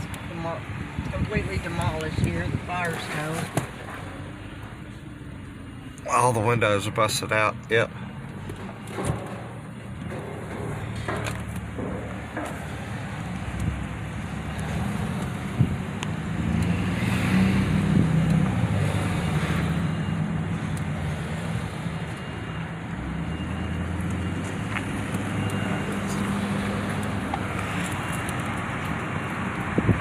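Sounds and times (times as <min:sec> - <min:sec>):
car engine and road hum: 0:00.0 - 0:30.0.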